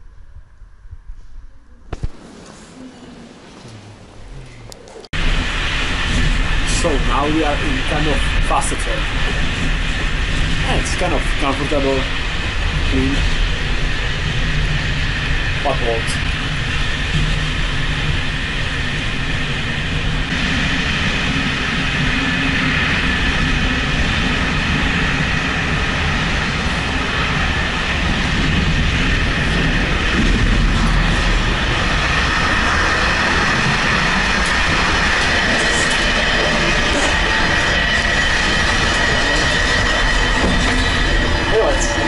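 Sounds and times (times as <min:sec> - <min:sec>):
thin high whine: 0:00.0 - 0:42.0
train rumble inside carriage: 0:00.0 - 0:42.0.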